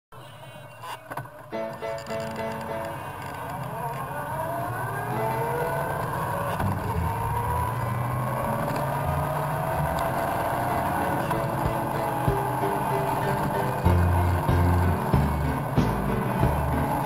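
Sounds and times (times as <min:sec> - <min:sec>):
motorcycle engine accelerating: 0:03.3 - 0:17.0.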